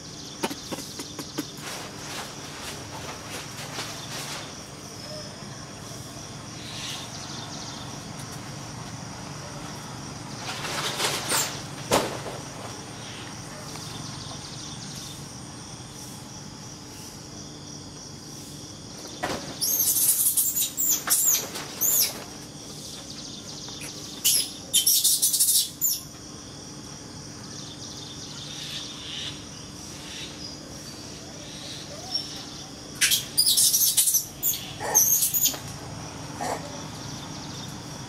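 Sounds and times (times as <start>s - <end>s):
insect hum: 0.0s - 38.0s.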